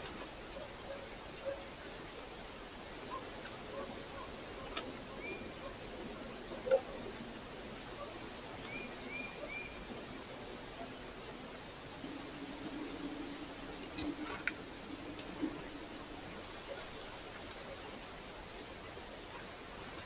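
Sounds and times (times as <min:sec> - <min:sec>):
microphone hiss: 0:00.0 - 0:20.0.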